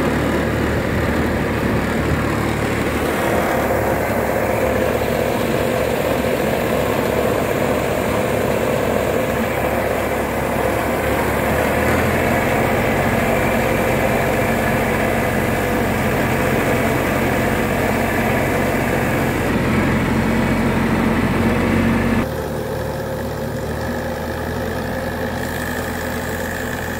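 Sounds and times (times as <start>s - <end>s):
sprayer fan: 0.0s - 23.6s
tractor diesel engine: 0.0s - 26.9s.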